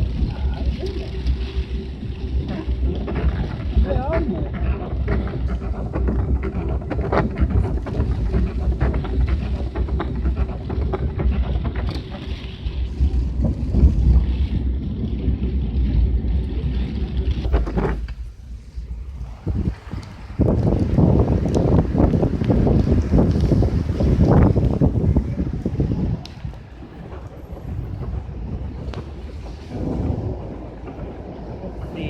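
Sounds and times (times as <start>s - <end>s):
rain ticking: 0.0s - 32.0s
wind buffeting microphone: 0.0s - 32.0s.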